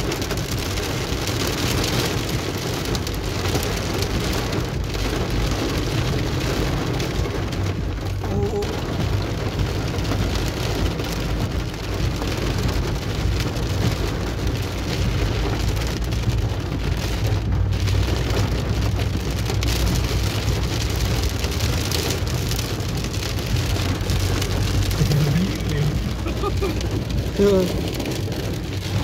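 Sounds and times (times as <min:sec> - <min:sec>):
car engine rumble: 0:00.0 - 0:29.0
heavy rain drumming on car roof: 0:00.0 - 0:29.0
tyres on wet road: 0:00.0 - 0:29.0.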